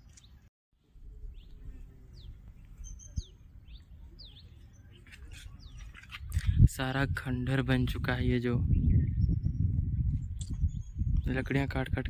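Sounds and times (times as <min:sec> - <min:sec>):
small birds chirping: 0:00.0 - 0:06.7, 0:08.6 - 0:11.8.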